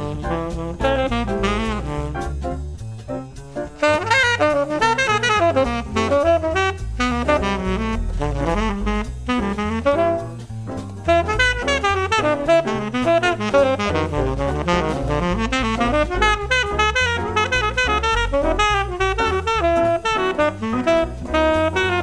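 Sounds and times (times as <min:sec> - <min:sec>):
bass and drums backing: 0:00.0 - 0:22.0
tenor saxophone jazz solo: 0:00.0 - 0:22.0.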